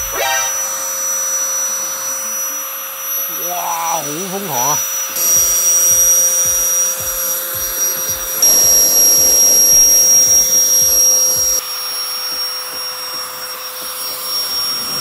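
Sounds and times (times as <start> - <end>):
jet blower whining: 0.0 - 15.0.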